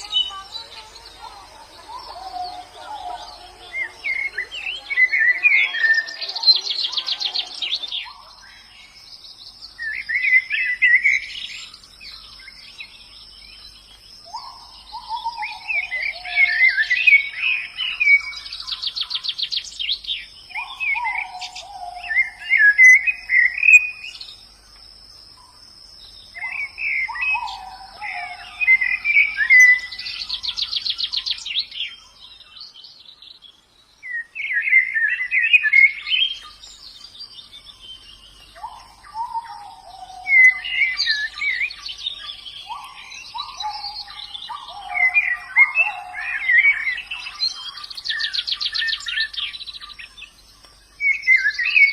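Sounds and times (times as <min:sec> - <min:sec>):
birds twittering and trilling: 0:00.0 - 0:51.9.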